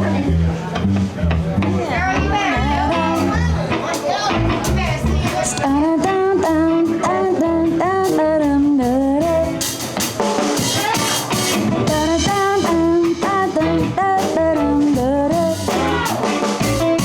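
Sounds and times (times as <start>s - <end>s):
bass guitar: 0.0s - 17.0s
bending lead melody: 0.0s - 17.0s
drum kit beat: 0.0s - 17.0s.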